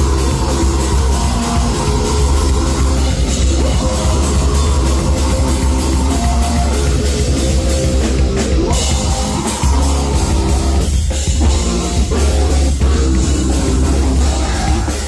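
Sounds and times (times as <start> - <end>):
heavy metal band playing live: 0.0 - 15.0
pounding drums: 0.0 - 15.0.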